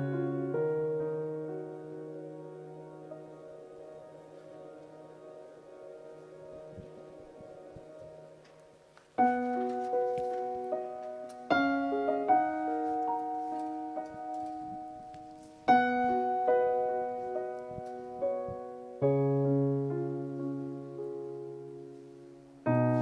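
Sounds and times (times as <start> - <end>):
slow solo piano: 0.0 - 23.0.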